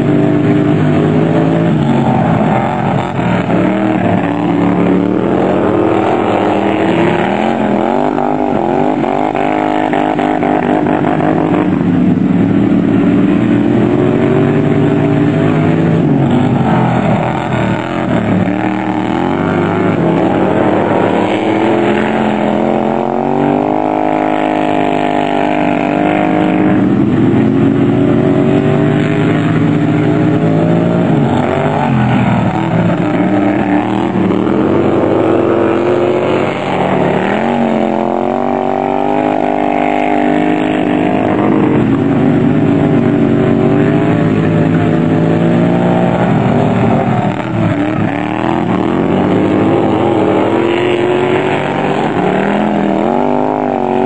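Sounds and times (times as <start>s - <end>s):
racing lawn mower engines: 0.0s - 54.0s.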